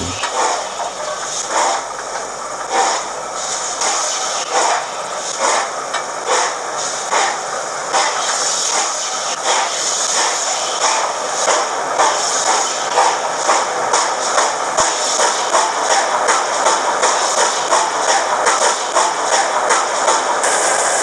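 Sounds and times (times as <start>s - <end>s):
steam hiss: 0.0s - 21.0s
steam locomotive exhaust chuffs: 0.0s - 21.0s.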